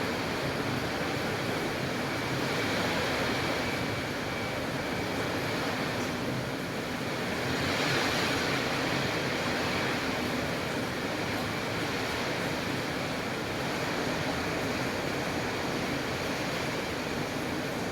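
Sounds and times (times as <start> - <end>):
rain in strong wind: 0.0 - 17.9.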